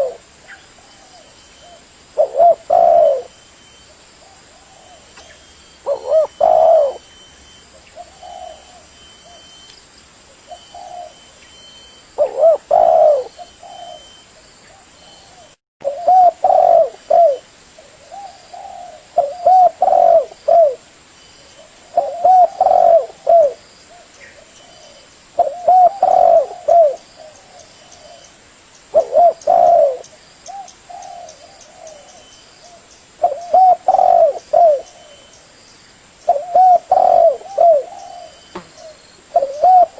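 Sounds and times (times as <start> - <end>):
dove cooing: 0.0 - 9.6, 10.5 - 11.4, 12.2 - 20.8, 21.5 - 28.3, 28.9 - 35.3, 36.3 - 39.9.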